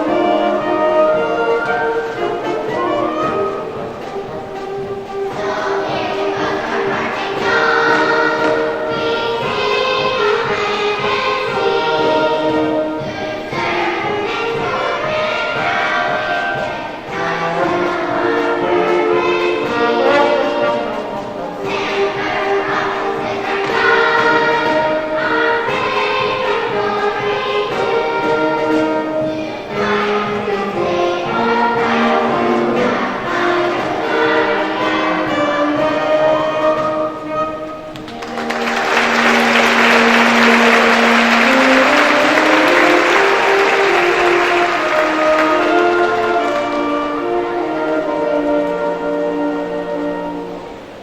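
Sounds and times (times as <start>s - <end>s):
choir singing held notes: 0.0s - 51.0s
instruments playing: 0.0s - 51.0s
musical accompaniment: 0.0s - 51.0s.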